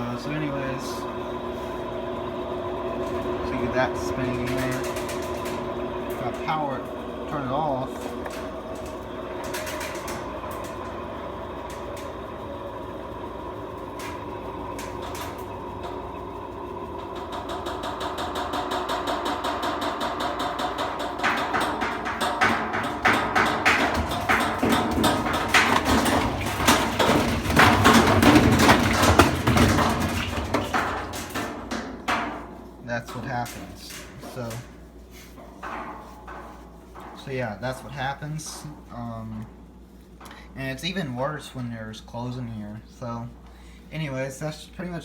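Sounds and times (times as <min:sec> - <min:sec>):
washer motor whine: 0:00.0 - 0:45.0
washer tub knocking and rattling: 0:01.9 - 0:39.7.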